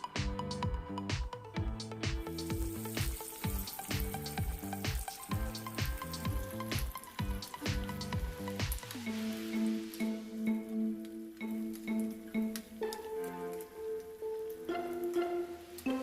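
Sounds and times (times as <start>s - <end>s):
background music with steady beat: 0.0s - 16.0s
food deep-frying in hot oil: 2.2s - 16.0s.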